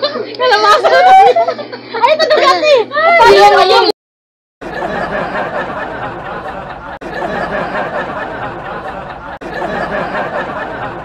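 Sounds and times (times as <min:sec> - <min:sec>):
crowd chattering and laughing: 0:00.0 - 0:03.9, 0:04.6 - 0:11.0.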